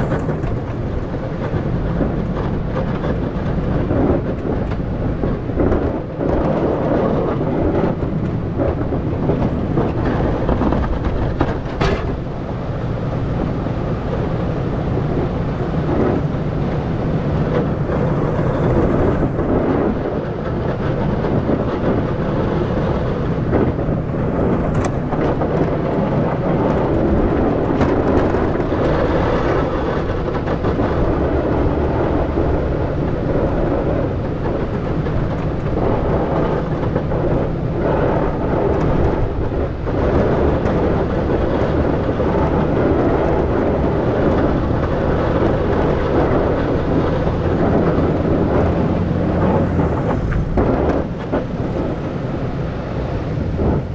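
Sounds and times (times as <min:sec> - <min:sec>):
plow blade pushing snow: 0:00.0 - 0:53.9
truck engine rumbling: 0:00.0 - 0:53.9.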